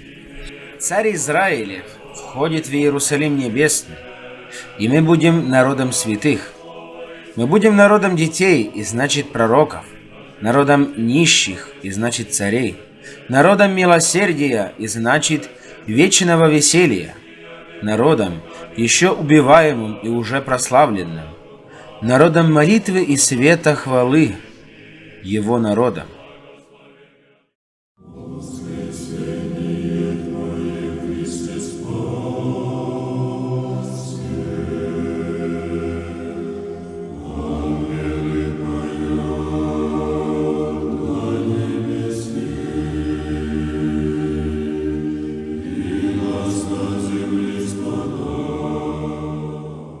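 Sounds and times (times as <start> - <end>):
choir singing a chant: 0.0 - 50.0.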